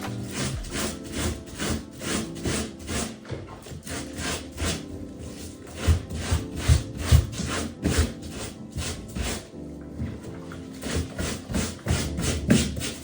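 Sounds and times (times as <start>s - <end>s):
brush scrubbing carpet: 0.0s - 13.0s.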